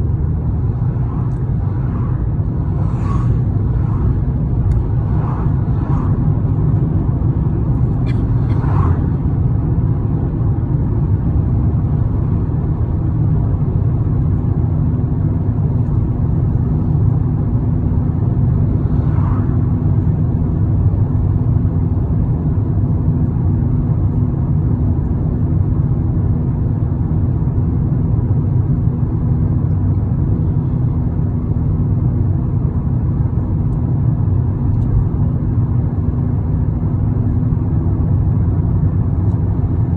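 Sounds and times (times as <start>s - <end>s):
vehicle driving rumble: 0.0s - 39.9s.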